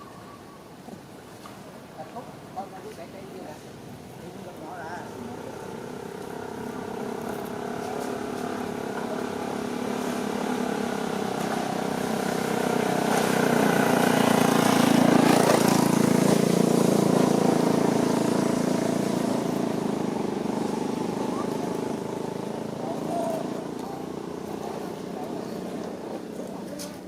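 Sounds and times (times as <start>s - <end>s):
vehicle engine passing by: 5.0s - 27.0s.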